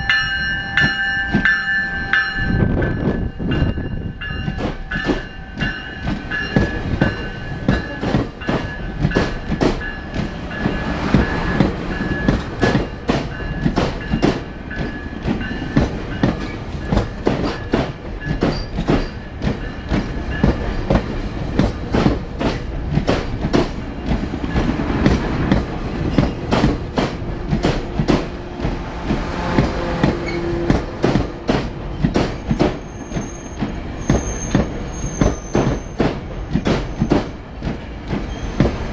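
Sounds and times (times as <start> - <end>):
train coach rumble: 0.0 - 38.9.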